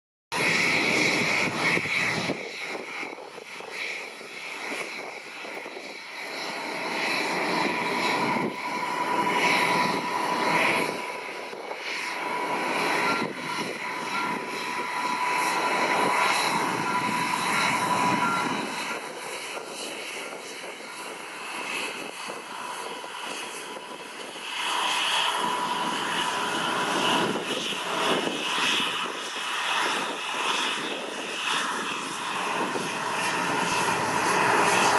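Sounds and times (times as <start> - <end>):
jet engines running: 0.4 - 34.9.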